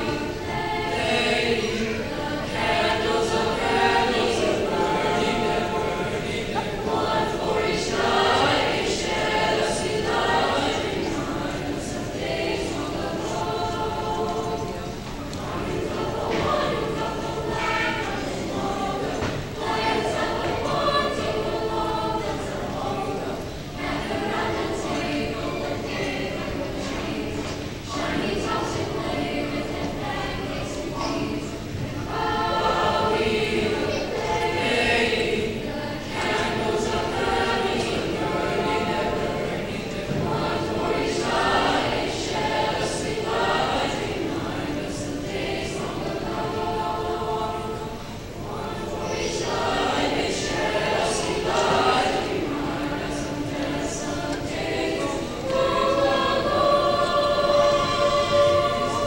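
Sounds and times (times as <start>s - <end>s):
choir singing in parts: 0.0s - 59.0s.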